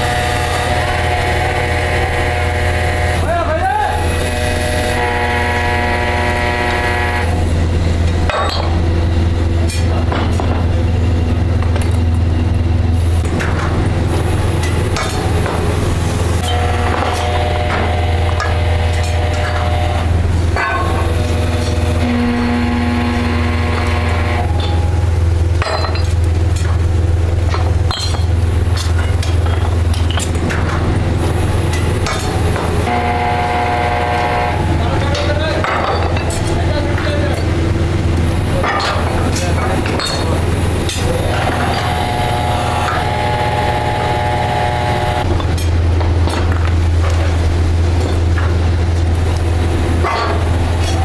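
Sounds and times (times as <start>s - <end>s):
machine whine: 0.0s - 51.0s
workshop machinery humming: 0.0s - 51.0s.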